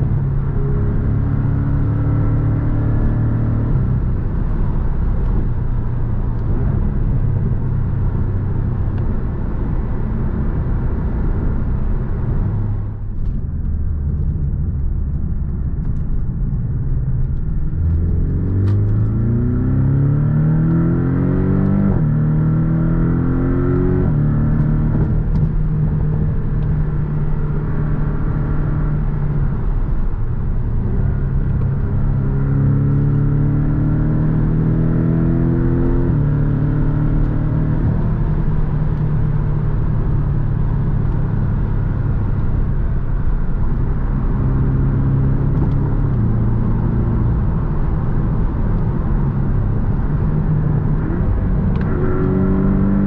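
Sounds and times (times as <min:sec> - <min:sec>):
car engine accelerating: 0:00.0 - 0:53.0
road rumble: 0:00.0 - 0:53.0.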